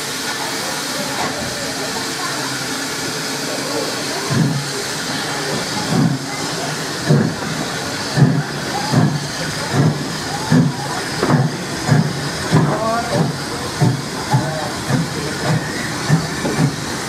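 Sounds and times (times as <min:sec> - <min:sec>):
steady steam hiss: 0:00.0 - 0:17.0
steam locomotive exhaust beats: 0:00.0 - 0:17.0.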